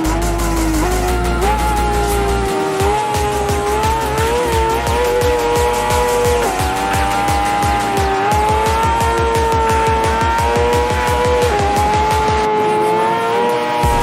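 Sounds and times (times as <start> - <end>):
background music: 0.0 - 14.0
motorcycle engine at high revs: 0.0 - 14.0.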